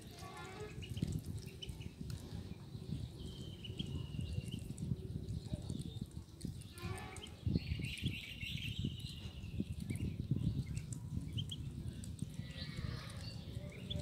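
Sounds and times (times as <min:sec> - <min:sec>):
ducklings peeping: 0:00.1 - 0:14.0.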